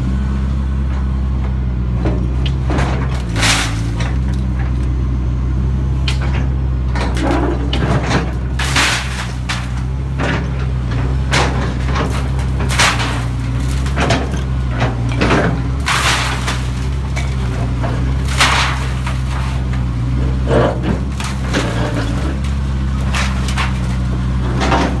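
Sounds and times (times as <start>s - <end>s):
diesel engine running: 0.0s - 25.0s
sharp cracks and crunches: 2.4s - 4.9s, 6.0s - 25.0s.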